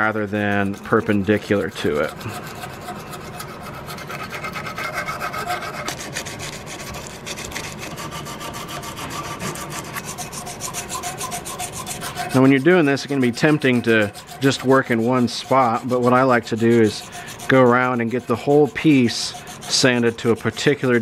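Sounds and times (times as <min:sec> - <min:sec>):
sandpaper scratching on metal: 0:00.0 - 0:21.0.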